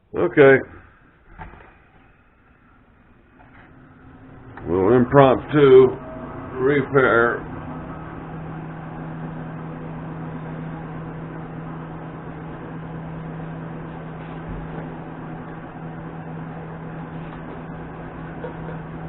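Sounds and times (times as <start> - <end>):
mechanical hum with low drone: 0.0 - 19.0.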